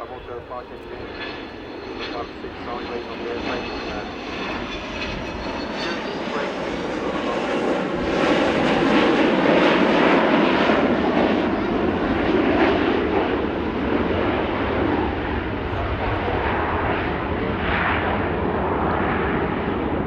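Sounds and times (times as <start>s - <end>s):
jet plane flying past: 0.0s - 20.0s.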